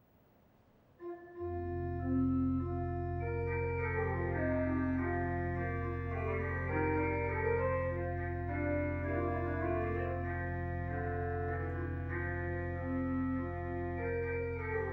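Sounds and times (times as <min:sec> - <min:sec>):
organ chords over bass note: 0:01.0 - 0:14.9.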